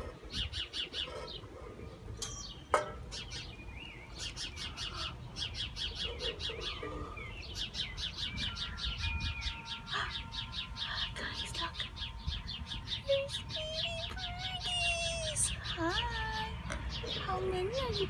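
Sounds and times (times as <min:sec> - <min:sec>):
sparrows chirping: 0:00.0 - 0:18.0.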